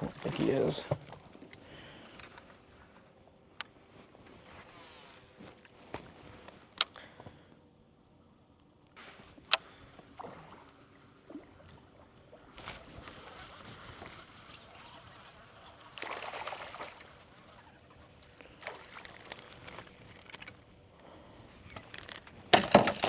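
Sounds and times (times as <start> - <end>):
water sloshing around boat: 0.0 - 7.5, 9.0 - 23.0.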